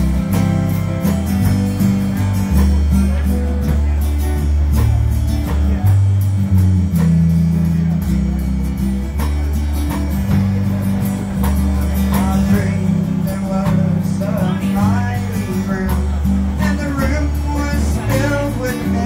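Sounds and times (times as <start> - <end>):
deep bass notes: 0.0 - 19.0
guitar melody line: 0.0 - 19.0
strummed guitar chords: 0.0 - 19.0.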